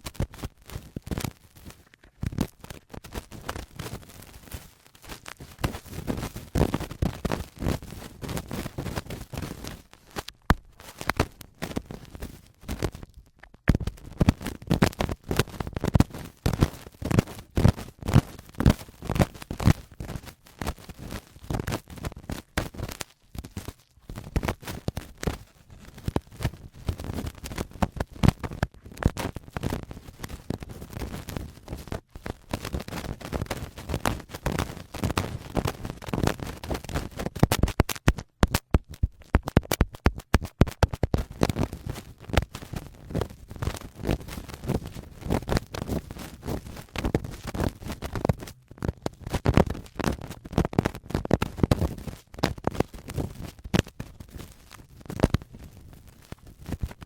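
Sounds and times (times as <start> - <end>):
cotton swab scratching microphone: 0.0 - 55.7.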